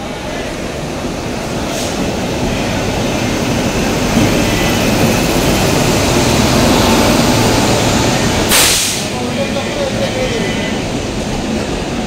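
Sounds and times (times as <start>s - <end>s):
electric locomotive passing at speed: 0.0s - 12.0s.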